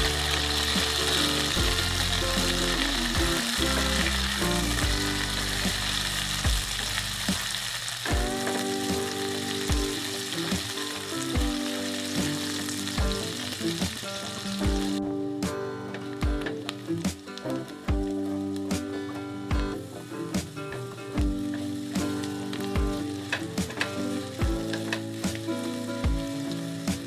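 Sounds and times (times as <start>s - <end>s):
onions sizzling in hot oil: 0.0s - 27.0s.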